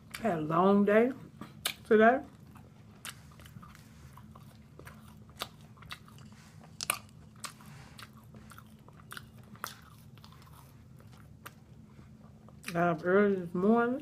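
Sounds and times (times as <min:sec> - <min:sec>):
crunchy chewing of fried chicken: 0:01.2 - 0:13.2.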